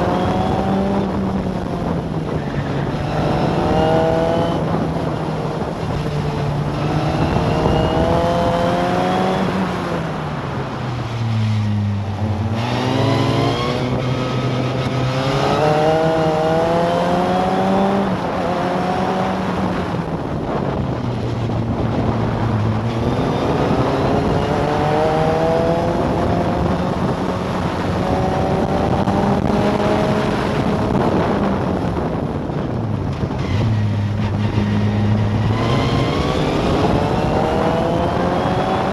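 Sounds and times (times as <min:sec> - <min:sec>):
racing car engine: 0:00.0 - 0:38.9
wind and road noise: 0:00.0 - 0:38.9.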